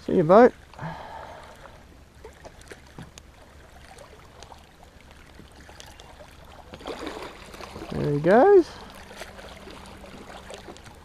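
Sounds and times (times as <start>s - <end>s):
shallow water lapping and trickling: 0.0s - 11.0s
small light splashes: 1.4s - 11.0s.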